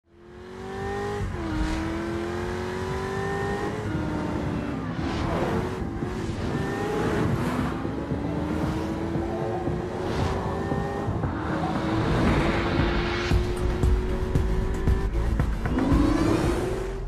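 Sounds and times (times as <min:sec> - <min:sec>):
car engine accelerating: 0:00.1 - 0:17.0.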